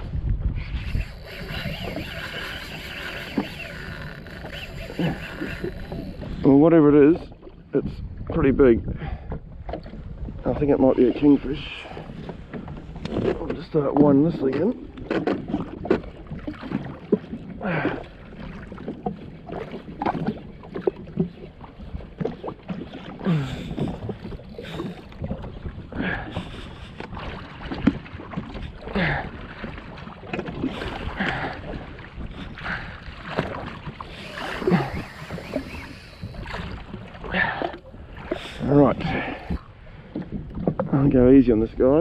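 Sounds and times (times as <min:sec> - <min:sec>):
water slapping against hull: 0:00.0 - 0:42.0
wind on microphone: 0:00.0 - 0:42.0.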